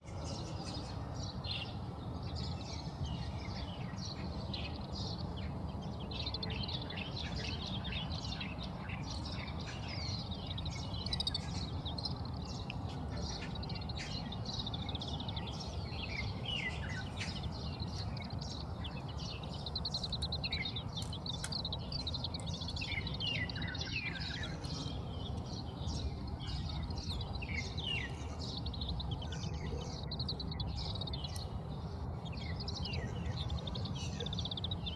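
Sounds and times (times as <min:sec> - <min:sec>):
finches twittering: 0:02.3 - 0:34.9.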